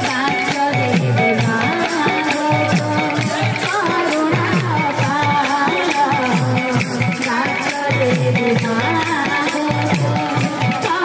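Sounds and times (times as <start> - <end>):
girl singing: 0.0 - 11.0
rattling percussion: 0.0 - 11.0.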